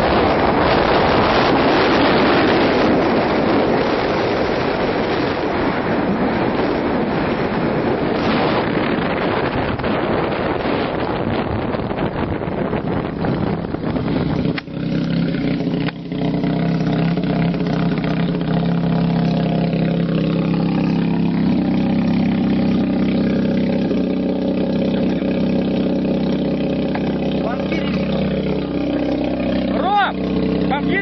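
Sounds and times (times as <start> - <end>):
car engine drone: 0.0 - 31.0
rushing wind noise: 0.0 - 31.0.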